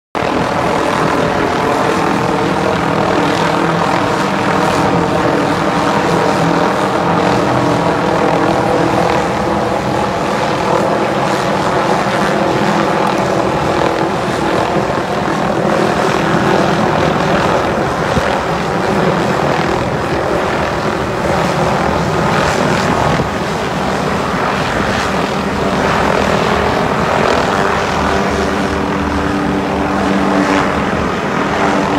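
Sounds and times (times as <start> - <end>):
helicopter flying close by: 0.2 - 31.9.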